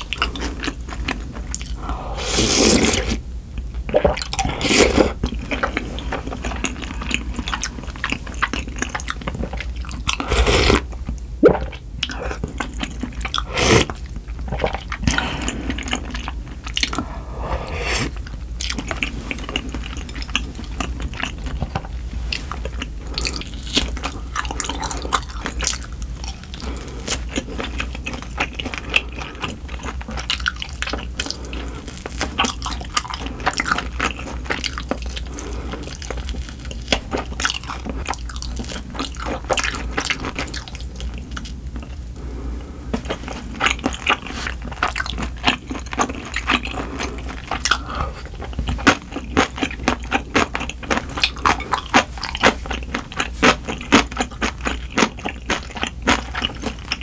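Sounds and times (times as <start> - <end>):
wet chewing and crunching: 0.0 - 42.1, 43.0 - 57.0
steady low hum: 0.0 - 57.0.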